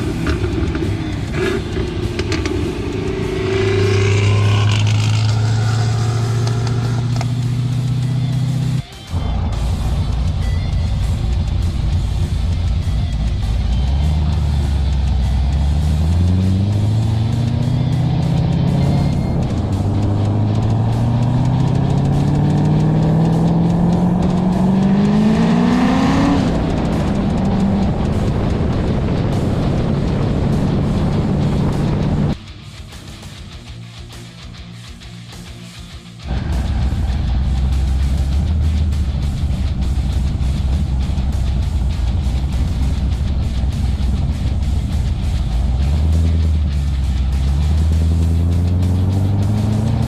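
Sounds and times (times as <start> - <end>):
car engine droning: 0.0 - 32.4, 35.6 - 50.0.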